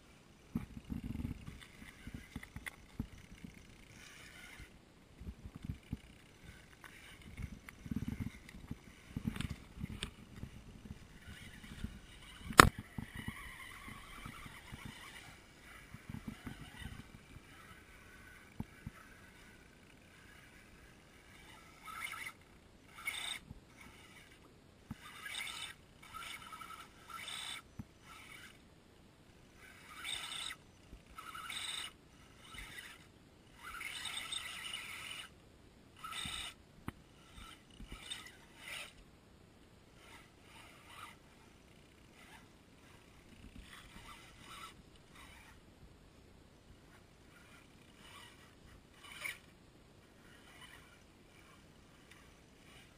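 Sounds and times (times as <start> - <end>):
rc car motor whining: 0.6 - 4.8, 5.4 - 28.6, 29.4 - 35.4, 36.0 - 36.6, 37.2 - 39.0, 39.9 - 45.6, 46.9 - 52.9.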